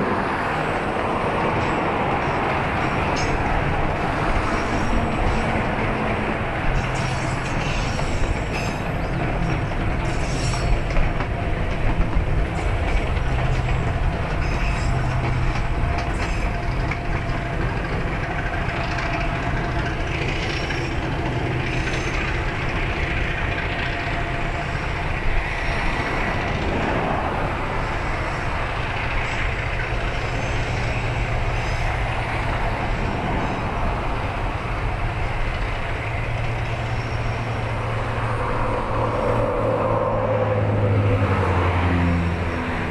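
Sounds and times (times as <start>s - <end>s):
diesel locomotive engine drone: 0.0s - 42.9s
train rolling noise: 0.0s - 42.9s.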